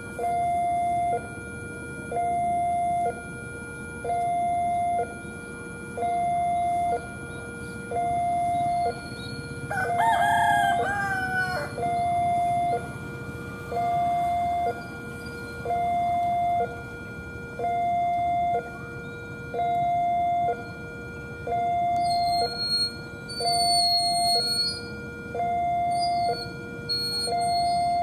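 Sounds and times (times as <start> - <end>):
two-tone level-crossing alarm: 0.0 - 28.0.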